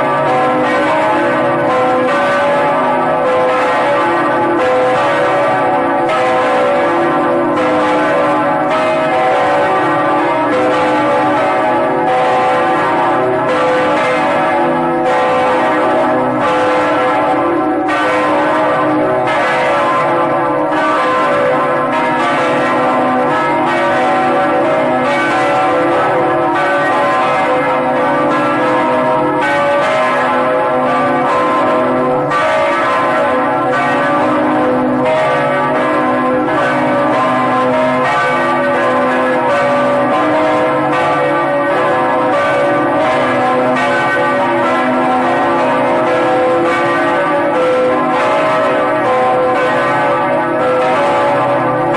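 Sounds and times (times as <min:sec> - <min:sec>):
church bells pealing: 0:00.0 - 0:51.9.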